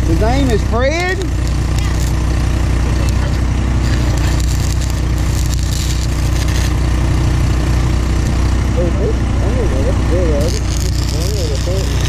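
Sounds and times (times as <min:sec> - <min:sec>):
engine drone: 0:00.0 - 0:12.0
welding arc crackling: 0:00.0 - 0:12.0.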